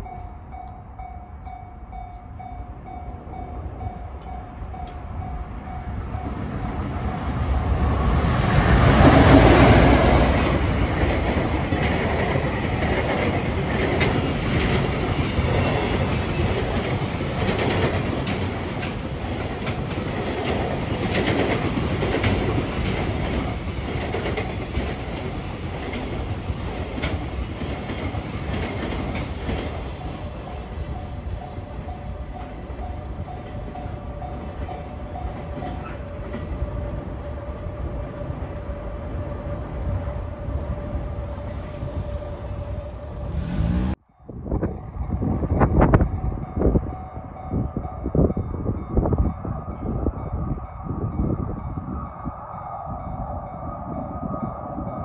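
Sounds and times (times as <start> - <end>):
electric locomotive passing: 0.0 - 55.0.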